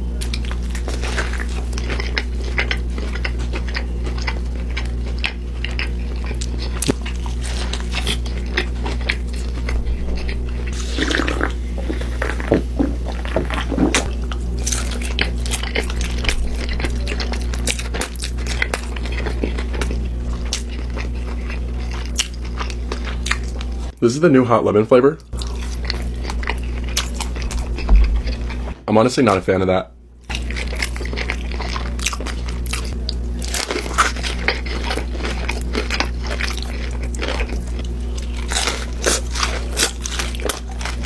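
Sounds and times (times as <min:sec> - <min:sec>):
chewing and crunching: 0:00.0 - 0:24.0, 0:25.1 - 0:29.4, 0:30.2 - 0:41.0
low electrical hum: 0:00.0 - 0:41.0.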